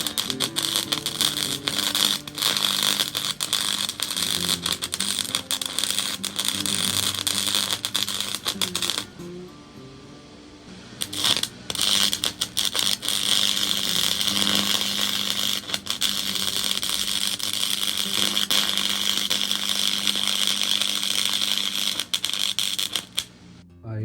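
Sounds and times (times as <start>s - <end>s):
welder arc crackling: 0.0s - 9.5s, 10.9s - 23.6s
steady low hum: 0.0s - 24.0s.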